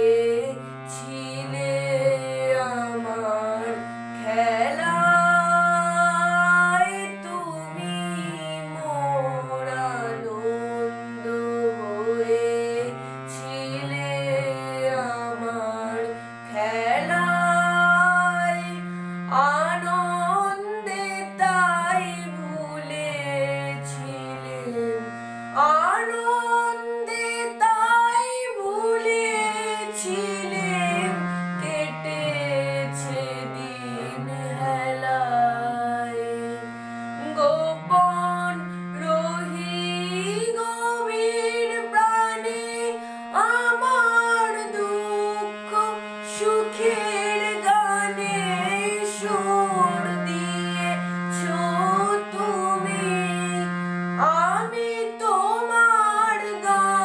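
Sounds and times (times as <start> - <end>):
boy singing: 0.0 - 57.0
harmonium: 0.0 - 57.0.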